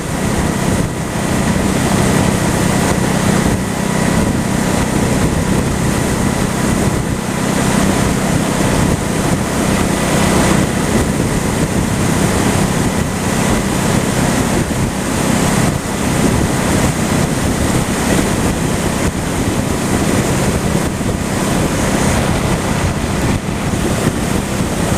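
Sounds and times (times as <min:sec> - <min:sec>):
motorcycle engine running: 0:00.0 - 0:24.9
wind rushing over microphone: 0:00.0 - 0:24.9.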